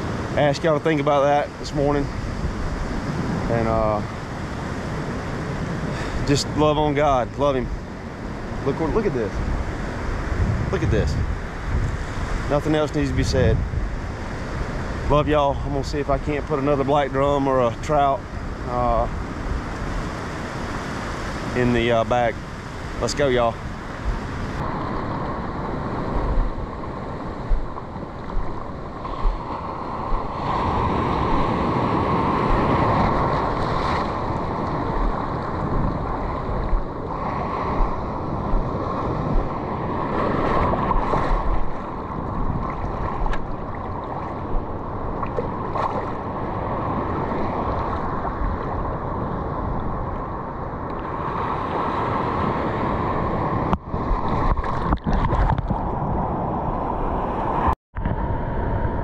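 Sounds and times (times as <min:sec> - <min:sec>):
ocean surf churning: 0:00.0 - 0:59.0
wind buffeting microphone: 0:00.0 - 0:59.0.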